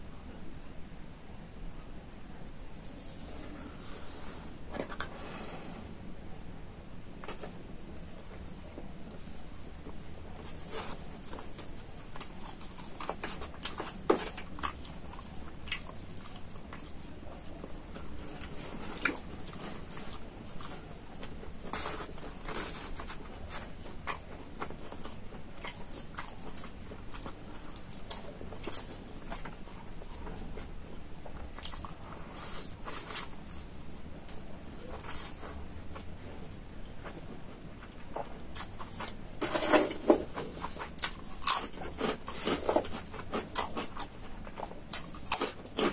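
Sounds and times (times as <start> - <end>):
crunching of crispy food: 8.4 - 45.9.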